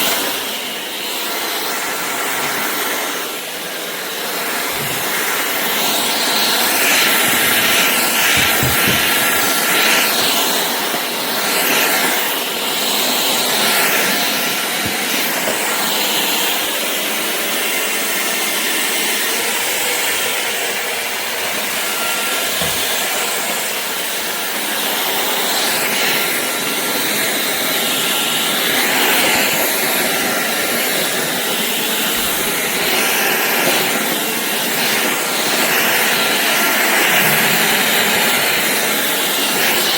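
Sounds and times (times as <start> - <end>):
stick vacuum suction noise: 0.0 - 17.9, 19.7 - 39.9.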